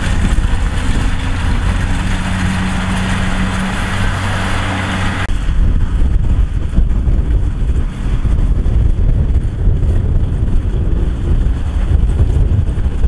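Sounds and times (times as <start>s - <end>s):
diesel engine rumbling: 0.0s - 13.0s
wind buffeting microphone: 0.0s - 13.0s.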